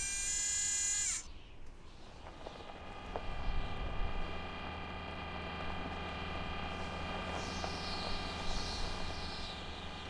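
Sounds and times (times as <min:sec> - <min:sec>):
machine hum with whining tones: 0:00.0 - 0:10.0.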